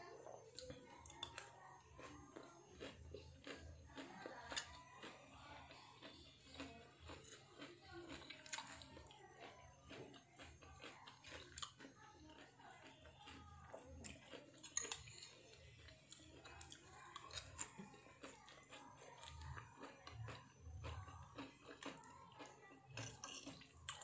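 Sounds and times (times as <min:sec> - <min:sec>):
person chewing: 0:00.5 - 0:24.0.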